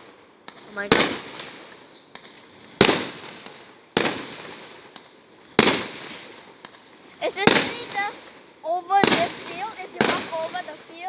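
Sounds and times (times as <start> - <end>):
faint firework pops: 0.0 - 11.0
firework bangs: 0.0 - 11.0.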